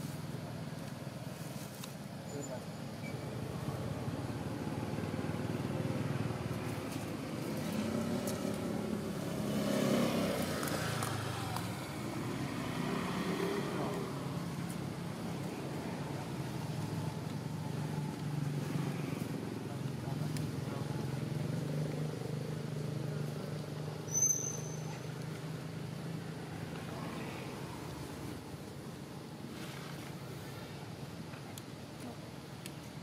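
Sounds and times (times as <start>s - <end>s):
motor vehicle passing by: 3.4s - 30.7s.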